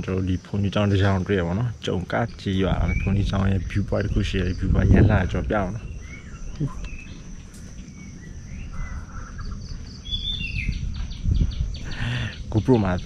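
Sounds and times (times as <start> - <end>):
high insect drone: 0.0 - 13.0
bird chirps: 2.1 - 13.0.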